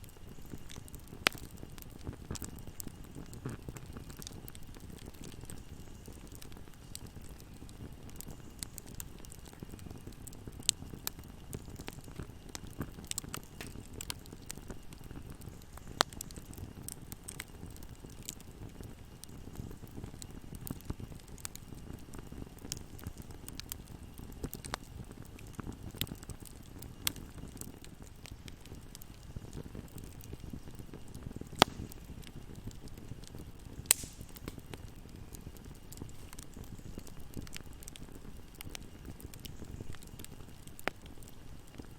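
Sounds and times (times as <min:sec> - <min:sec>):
fire flames rumbling: 0:00.0 - 0:41.9
wood fire crackling and popping: 0:00.0 - 0:41.9.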